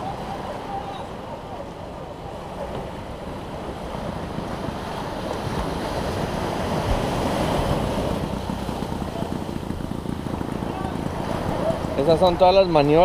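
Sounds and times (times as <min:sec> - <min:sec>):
small waves breaking on beach: 0:00.0 - 0:13.0
wind buffeting microphone: 0:00.0 - 0:13.0.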